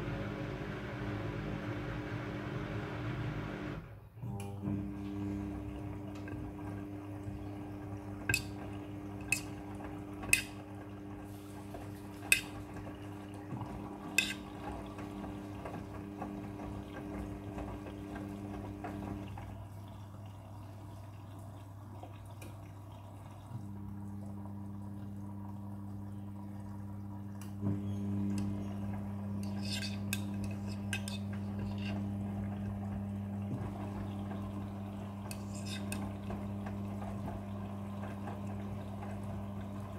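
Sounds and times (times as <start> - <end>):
washing machine drum motor humming: 0.0 - 39.9
water sloshing in drum: 5.4 - 39.9.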